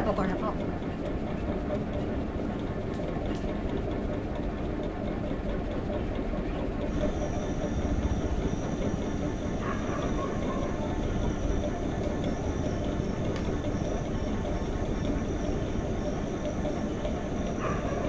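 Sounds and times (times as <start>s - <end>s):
ceiling fan rattling: 0.0s - 18.0s.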